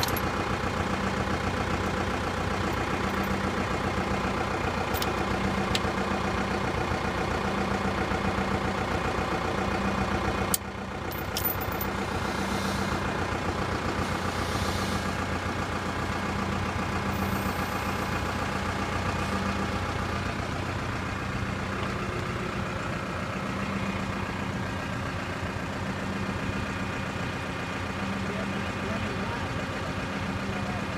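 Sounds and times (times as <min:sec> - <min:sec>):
tractor engine idling: 0:00.0 - 0:30.9.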